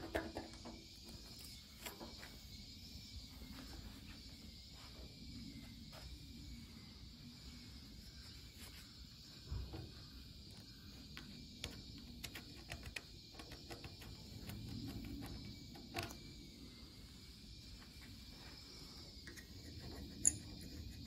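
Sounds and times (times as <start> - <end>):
steady high hum: 0.0 - 21.0.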